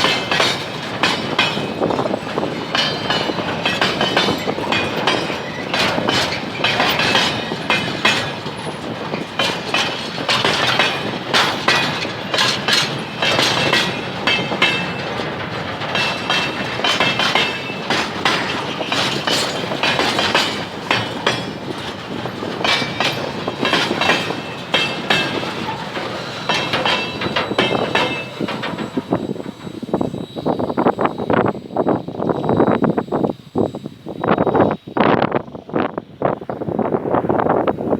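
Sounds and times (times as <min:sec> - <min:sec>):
train wheels clacking over rail joints: 0:00.0 - 0:34.8
faint high wheel squeals: 0:00.0 - 0:37.9.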